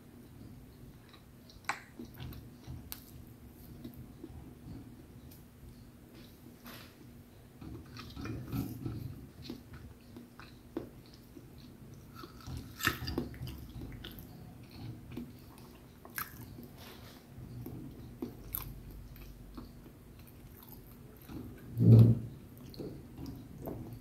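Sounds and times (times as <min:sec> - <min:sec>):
person chewing food: 0:00.2 - 0:06.6, 0:07.6 - 0:21.8, 0:22.4 - 0:24.0.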